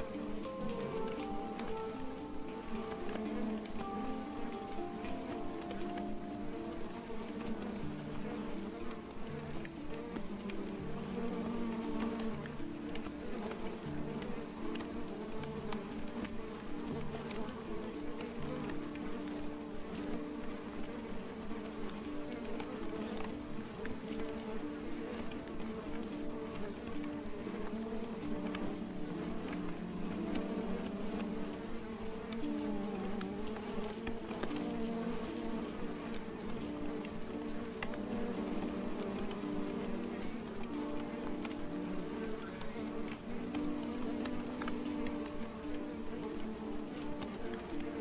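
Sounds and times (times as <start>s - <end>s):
honeybees buzzing: 0.0s - 48.0s
light ticks: 0.0s - 48.0s.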